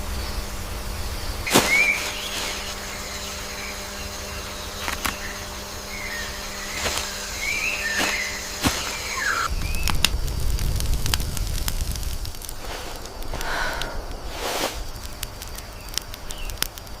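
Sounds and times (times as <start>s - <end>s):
birds chirping: 0.0s - 10.2s, 12.4s - 17.0s
wood fire crackling: 0.0s - 17.0s.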